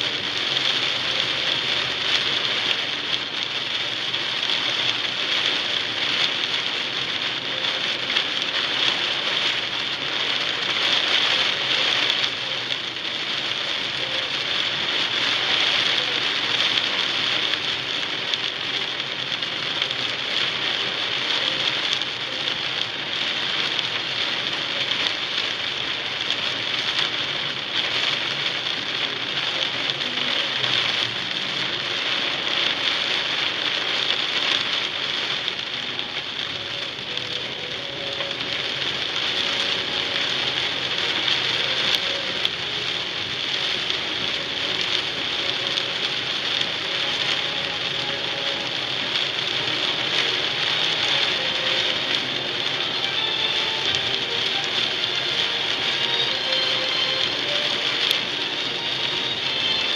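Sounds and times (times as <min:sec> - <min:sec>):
heavy rain on a car: 0:00.0 - 0:59.9.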